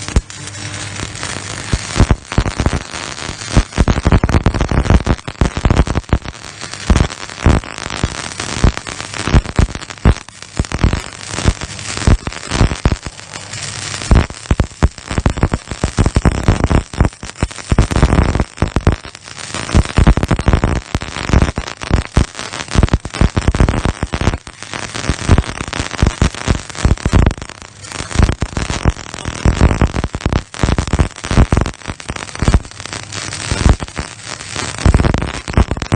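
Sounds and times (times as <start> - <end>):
welding arc crackling: 0.0 - 35.9.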